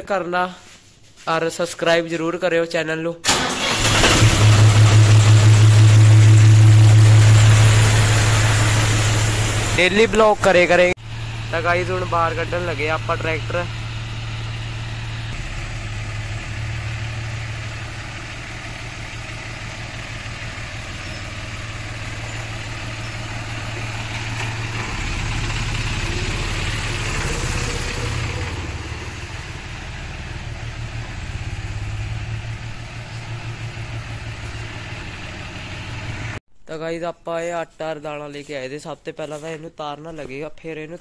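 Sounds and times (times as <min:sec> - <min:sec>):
diesel tractor engine running: 0:03.3 - 0:36.4.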